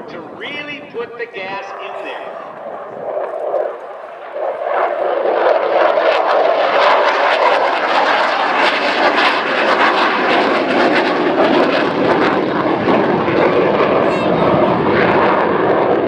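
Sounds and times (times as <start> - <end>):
jet engine roaring by: 0.0 - 16.0.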